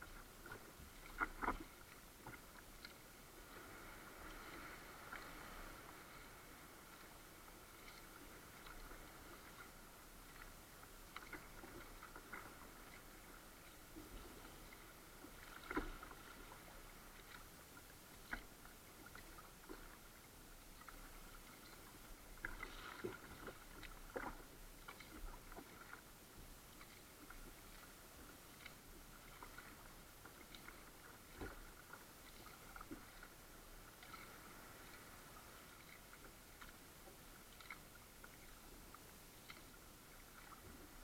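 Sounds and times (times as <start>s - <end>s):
paddle splashes: 0.0s - 41.0s.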